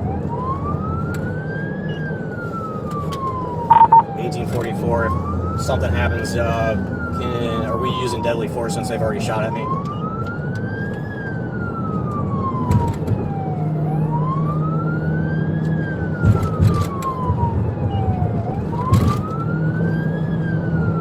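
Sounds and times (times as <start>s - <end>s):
police siren wailing: 0.0s - 21.0s.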